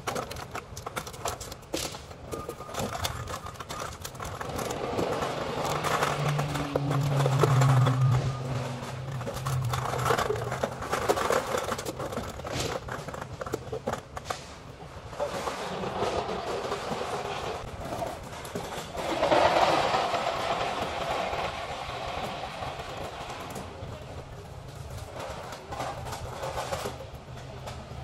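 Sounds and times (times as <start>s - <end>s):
recyclables clattering and rustling: 0.0s - 28.0s.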